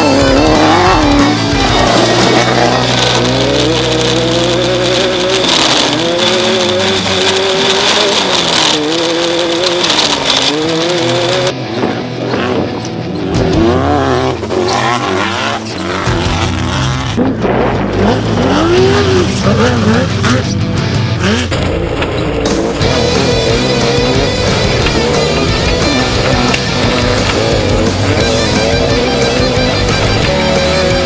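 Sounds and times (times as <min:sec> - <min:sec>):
race car engines revving: 0:00.0 - 0:31.0.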